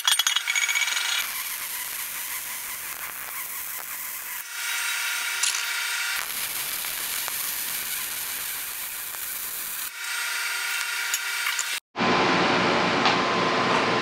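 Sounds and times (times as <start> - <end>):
steady welder hum: 0.4 - 11.8
welding arc crackling: 0.4 - 11.8.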